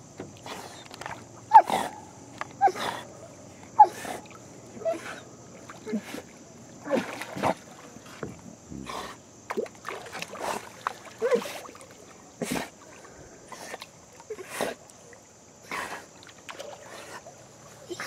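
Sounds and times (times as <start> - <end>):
dog paddling splashes in water: 0.1 - 18.0.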